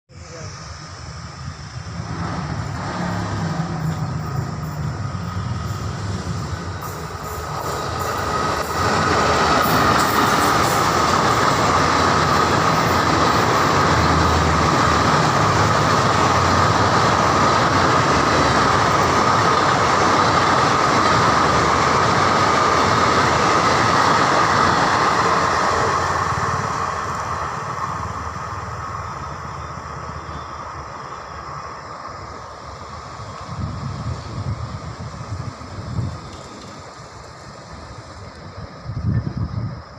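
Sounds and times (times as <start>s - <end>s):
passenger train passing: 0.1s - 39.9s
rail noise: 0.1s - 39.9s.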